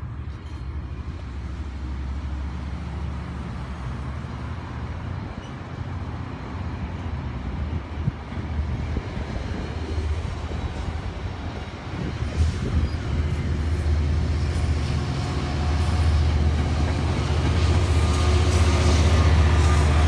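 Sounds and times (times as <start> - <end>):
train rumbling over bridge: 0.0 - 20.0.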